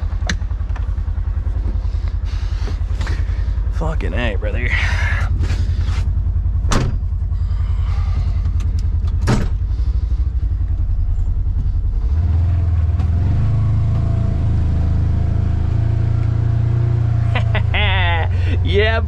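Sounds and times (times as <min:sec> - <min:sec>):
engine running under load: 0:00.0 - 0:19.0.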